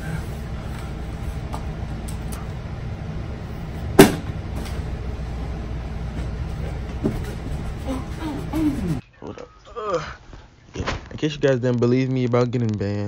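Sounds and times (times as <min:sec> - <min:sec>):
low room rumble: 0:00.0 - 0:10.6.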